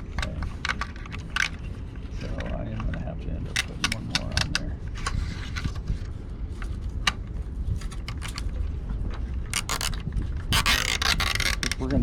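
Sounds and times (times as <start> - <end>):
plastic parts clicking and rattling: 0.0 - 12.0
steady low rumble: 0.0 - 12.0.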